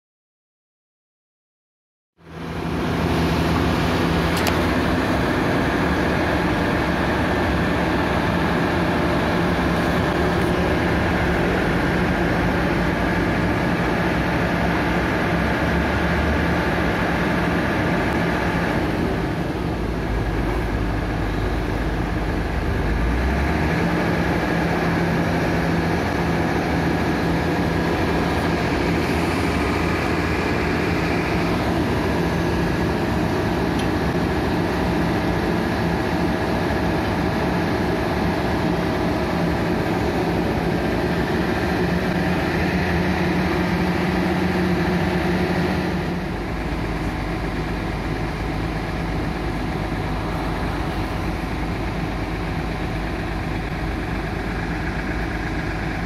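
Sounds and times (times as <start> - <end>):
deeper engine rumble: 2.2 - 56.0
excavator diesel engine running: 2.2 - 56.0.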